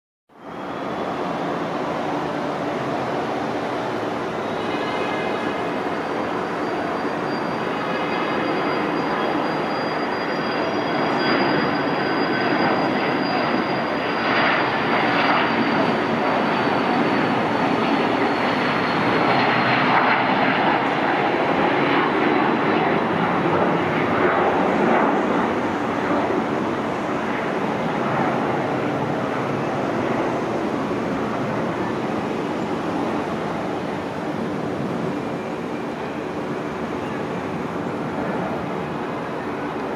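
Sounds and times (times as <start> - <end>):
jet engine roar with whine: 0.3 - 39.9.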